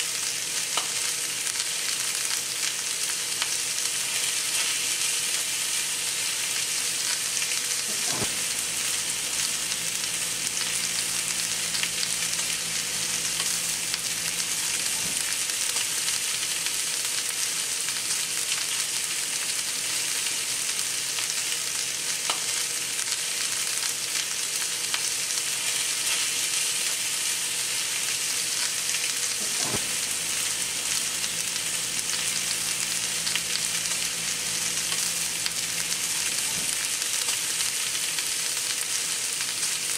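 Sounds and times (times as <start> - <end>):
steaks sizzling in a hot pan: 0.0 - 39.9.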